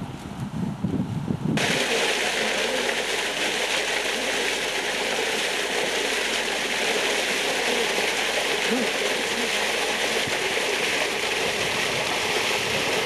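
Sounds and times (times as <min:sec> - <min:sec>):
water rushing over rocks: 0:01.6 - 0:13.0.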